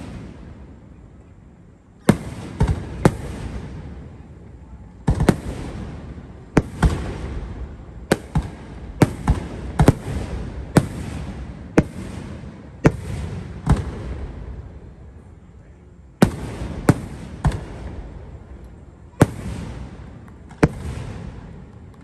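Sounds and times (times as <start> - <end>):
rumble after firework bangs: 0.0 - 22.0.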